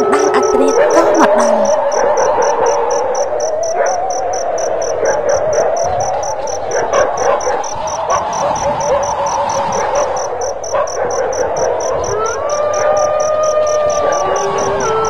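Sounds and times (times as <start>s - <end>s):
crickets chirping: 0.0s - 15.0s
night insect chorus: 1.6s - 15.0s.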